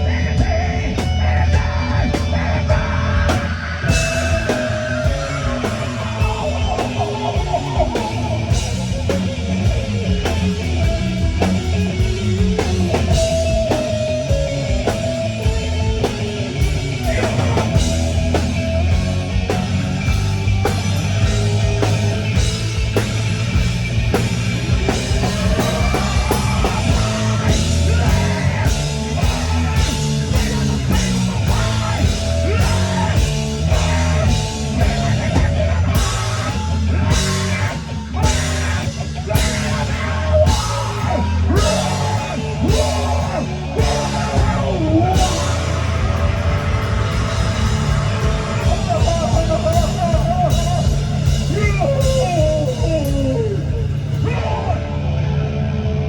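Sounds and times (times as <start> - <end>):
drums striking hard accents: 0.0 - 54.6
rock band playing live: 0.0 - 56.0.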